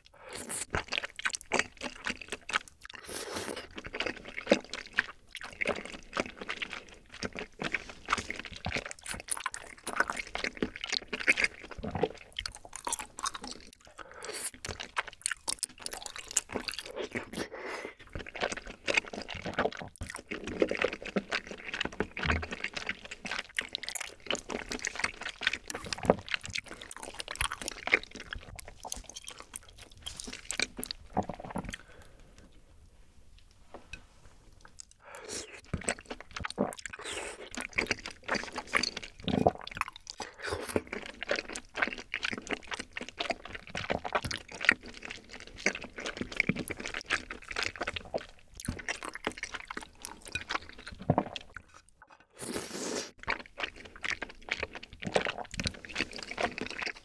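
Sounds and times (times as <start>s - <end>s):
close chewing with wet clicks: 0.0s - 32.2s, 34.5s - 52.4s, 53.1s - 57.0s.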